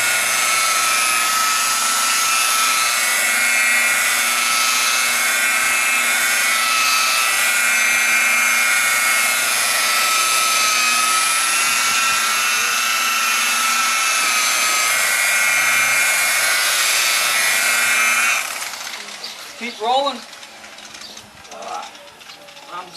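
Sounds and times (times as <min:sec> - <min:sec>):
polishing buffer whining: 0:00.0 - 0:21.2.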